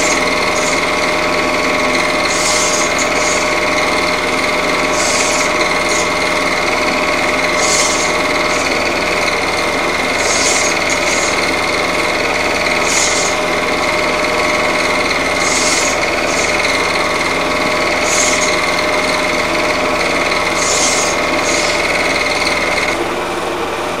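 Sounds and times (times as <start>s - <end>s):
constant high tone: 0.0s - 23.0s
film projector whirring: 0.0s - 24.0s.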